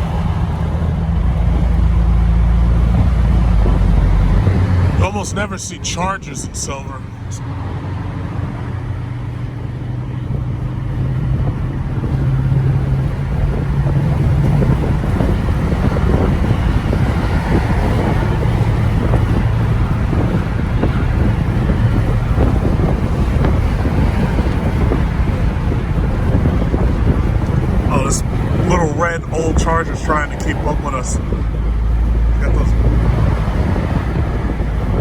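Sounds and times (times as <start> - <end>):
car engine drone: 0.0 - 35.0
road and wind rush: 0.0 - 35.0.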